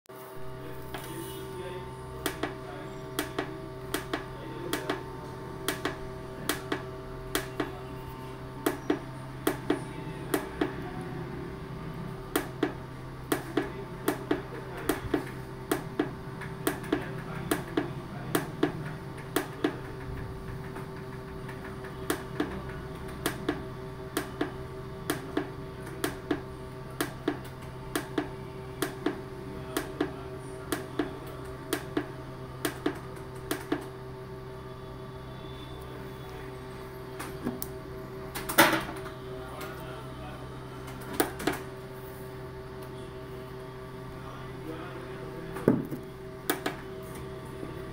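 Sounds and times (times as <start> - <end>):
steady electrical hum: 0.1 - 47.9.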